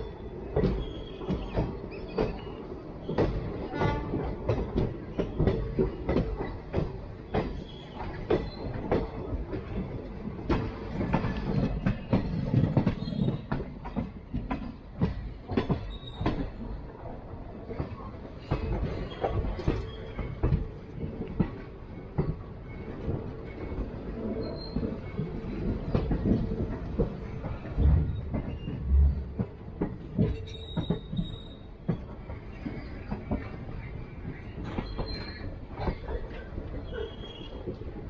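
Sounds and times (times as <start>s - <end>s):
train low rumble: 0.0s - 38.0s
train wheels clicking over rail joints: 0.0s - 38.0s.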